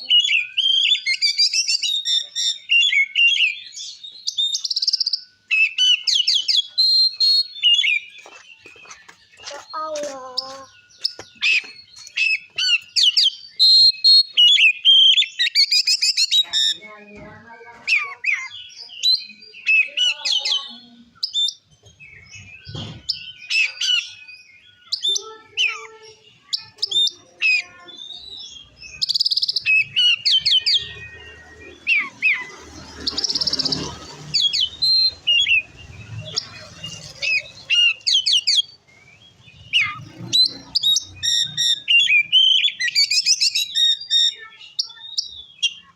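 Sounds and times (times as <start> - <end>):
bird singing whistles and trills: 0.0 - 16.8, 18.0 - 25.8, 26.4 - 45.9.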